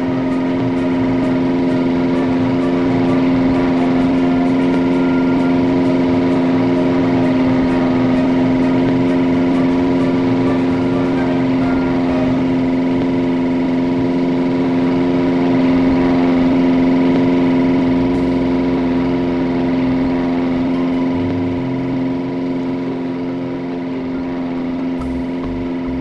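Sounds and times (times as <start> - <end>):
electric fan motor humming: 0.0 - 26.0.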